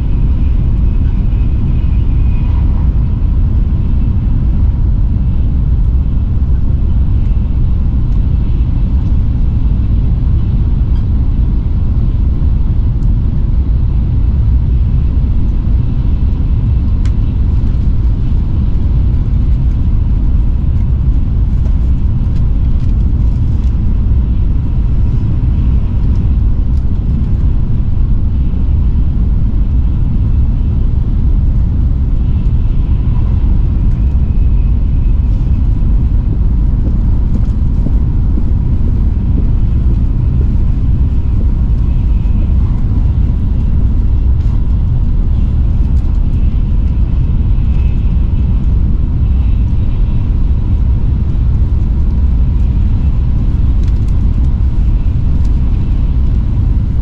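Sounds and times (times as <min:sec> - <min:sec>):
train rumble from inside carriage: 0:00.0 - 0:57.0.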